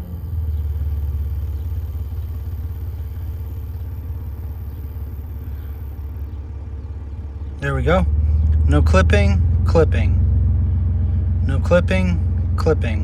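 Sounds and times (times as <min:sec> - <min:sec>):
subwoofer low bass tone: 0:00.0 - 0:13.0.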